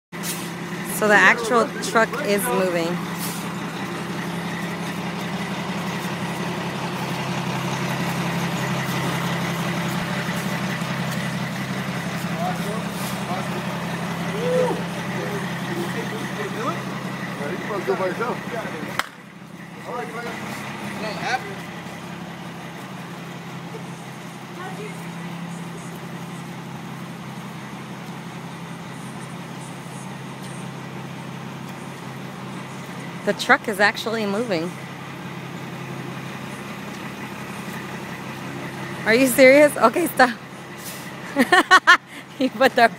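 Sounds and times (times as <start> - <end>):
truck diesel engine idling: 0.1 - 42.9.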